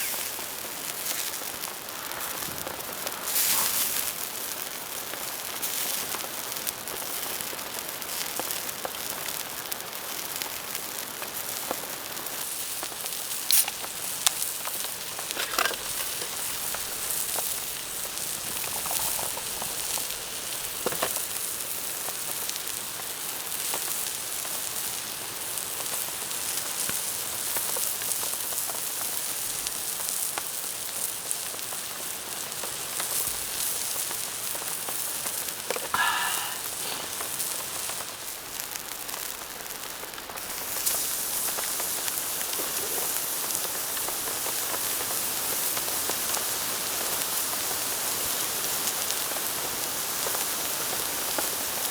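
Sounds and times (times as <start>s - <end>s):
rain falling: 0.0s - 51.9s
sharp crackling pops: 0.0s - 51.9s.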